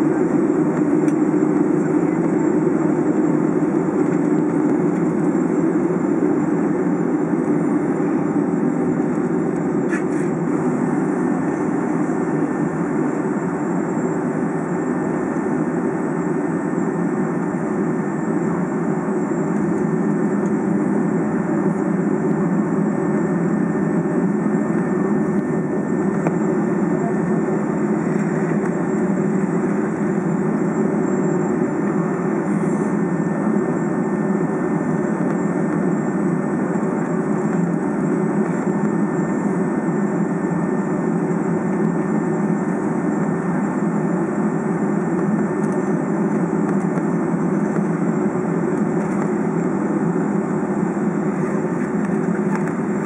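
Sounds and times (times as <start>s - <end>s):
airplane cabin drone: 0.0s - 53.0s.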